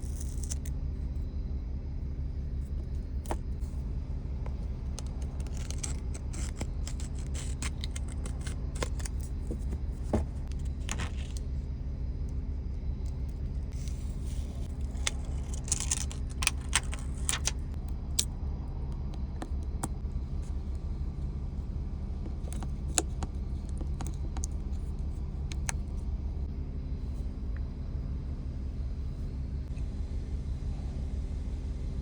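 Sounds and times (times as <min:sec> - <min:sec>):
car engine idling: 0:00.7 - 0:32.0.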